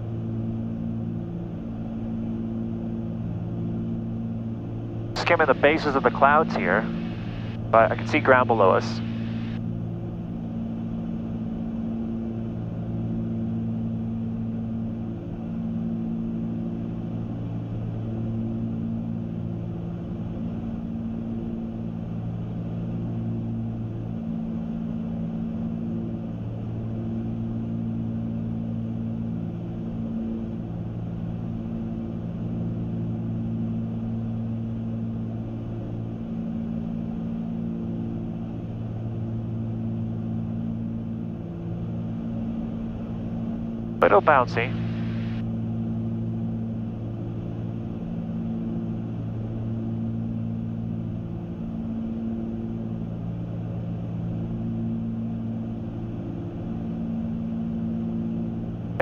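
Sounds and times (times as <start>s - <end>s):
aircraft propeller engines droning: 0.0s - 59.0s.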